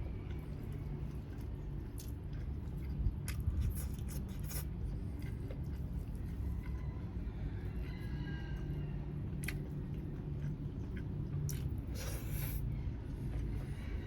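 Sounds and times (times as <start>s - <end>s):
person chewing food: 0.0s - 7.2s, 8.6s - 14.0s
low background rumble: 0.0s - 14.0s.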